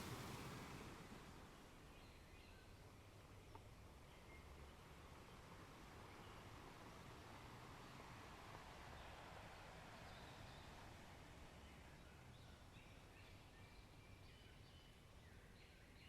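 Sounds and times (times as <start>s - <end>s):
soft outdoor noise: 0.0s - 16.0s.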